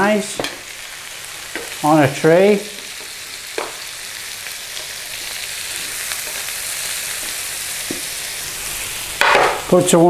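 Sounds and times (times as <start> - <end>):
onion sizzling in oil: 0.0 - 10.0.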